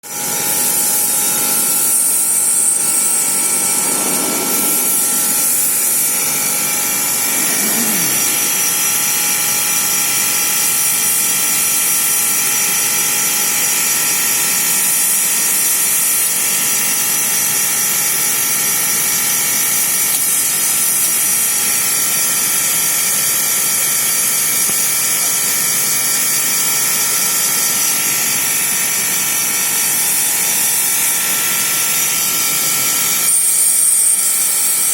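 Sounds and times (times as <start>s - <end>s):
machine whining tones: 0.0s - 34.9s
lathe machinery whirring and clattering: 0.1s - 34.9s.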